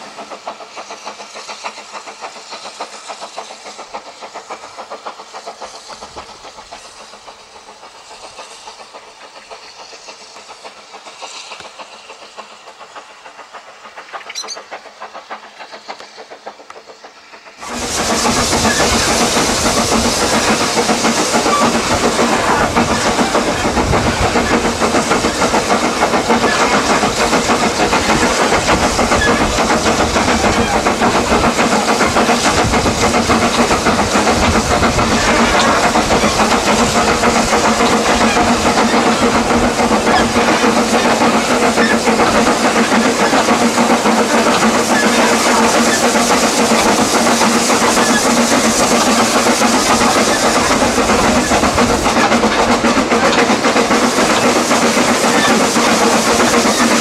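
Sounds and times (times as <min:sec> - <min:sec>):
distant steam train passing: 0:00.0 - 0:57.0
steam locomotive chuffing: 0:00.0 - 0:57.0
wheels clattering on rails: 0:00.0 - 0:57.0.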